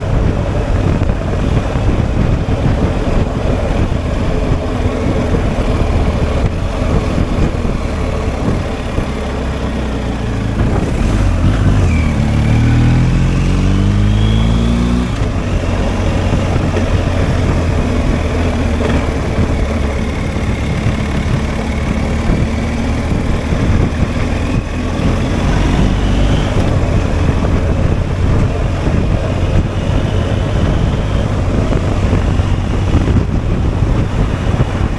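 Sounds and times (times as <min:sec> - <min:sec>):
motorcycle engine running: 0:00.0 - 0:34.9
rush of wind noise: 0:00.0 - 0:34.9.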